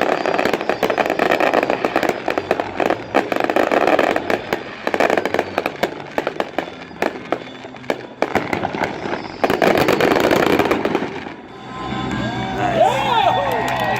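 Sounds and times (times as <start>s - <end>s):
fireworks crackling: 0.0s - 13.9s.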